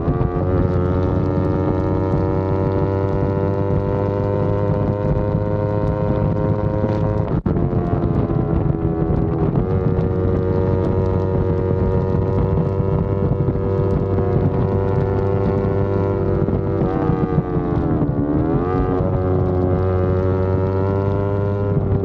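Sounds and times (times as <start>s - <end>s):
motorcycle engine under load: 0.0s - 22.0s
wind rushing over microphone: 0.0s - 22.0s.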